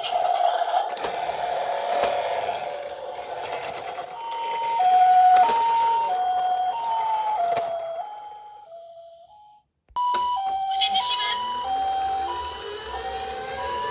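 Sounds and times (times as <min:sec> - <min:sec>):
toy ambulance siren: 0:00.0 - 0:13.9.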